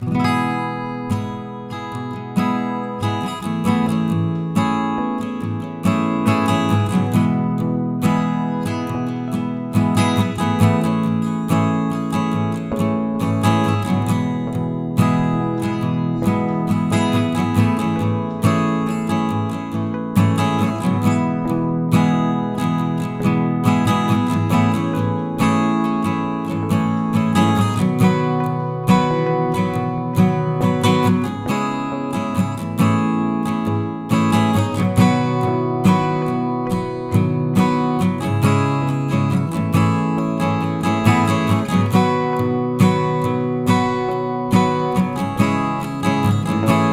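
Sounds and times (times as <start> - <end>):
acoustic guitar strumming: 0.0 - 46.9.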